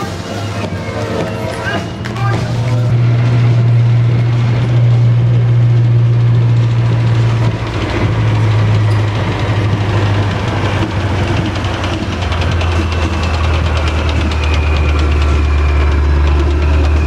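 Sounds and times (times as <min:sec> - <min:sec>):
diesel engine droning: 0:00.0 - 0:17.0
rattling track clatter: 0:00.0 - 0:17.0.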